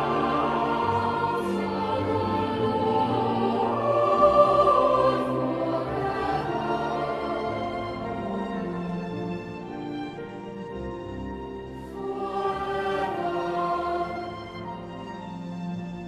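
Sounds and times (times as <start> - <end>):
choir singing sustained chords: 0.0 - 16.0
instrumental accompaniment: 0.0 - 16.0.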